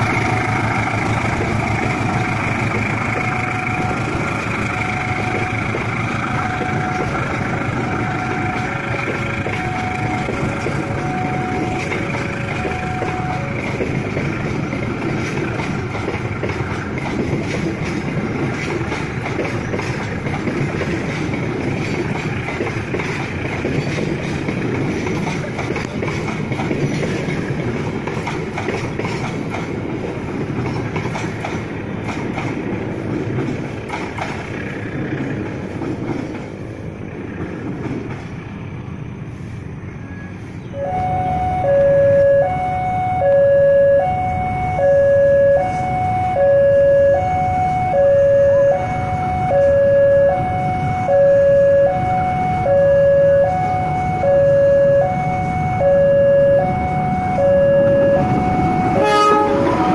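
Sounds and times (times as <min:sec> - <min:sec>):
two-tone railway warning alarm: 0:00.0 - 0:35.0, 0:40.7 - 0:59.9
approaching train rumble: 0:00.0 - 0:59.9
train coaches clattering over rails: 0:00.0 - 0:59.9.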